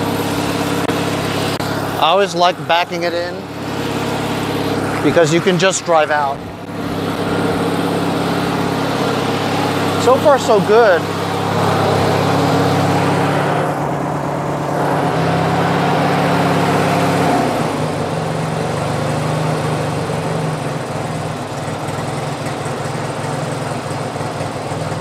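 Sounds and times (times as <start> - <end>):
lawn tractor engine idling: 0.0 - 15.4, 17.9 - 25.0.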